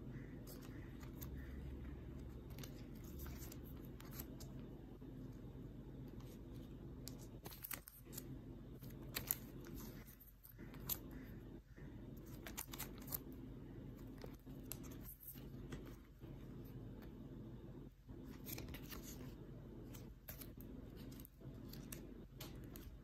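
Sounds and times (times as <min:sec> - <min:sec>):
banknotes rustling in plastic sleeves: 0:00.1 - 0:17.2, 0:18.0 - 0:23.0.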